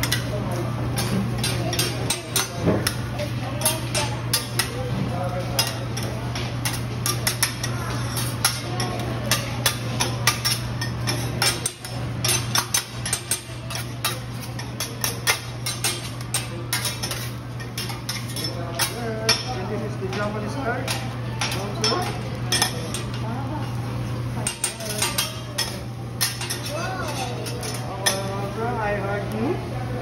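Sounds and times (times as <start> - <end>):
metal spatulas clacking on griddle: 1.0 - 3.0, 3.6 - 4.8, 5.4 - 20.3, 20.9 - 23.2, 24.4 - 28.3.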